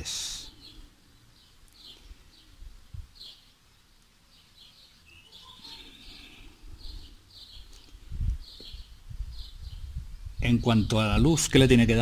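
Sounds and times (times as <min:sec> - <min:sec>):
small bird chirping: 0:00.0 - 0:11.2.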